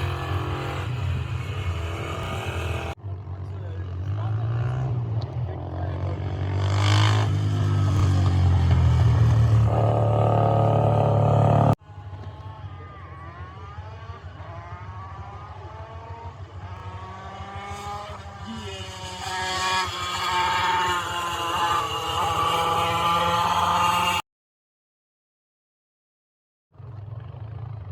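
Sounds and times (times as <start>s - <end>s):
distant engine shifting gears: 0.0s - 24.2s
loud close racing engine: 0.0s - 24.2s.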